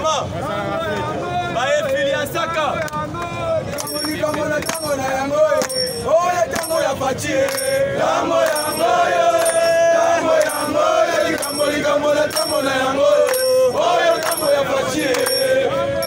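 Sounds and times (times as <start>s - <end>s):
men chanting in unison: 0.4s - 16.0s.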